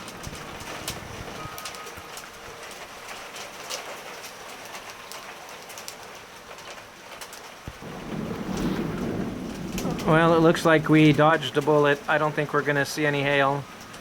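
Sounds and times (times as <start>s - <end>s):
heavy rain falling: 0.0s - 14.0s
raindrops ticking on surfaces: 0.0s - 14.0s.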